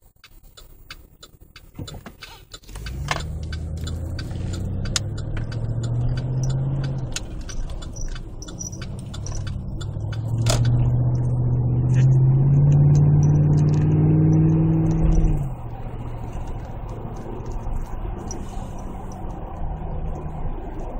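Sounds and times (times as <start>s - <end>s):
engine exhaust revving: 2.4s - 20.5s.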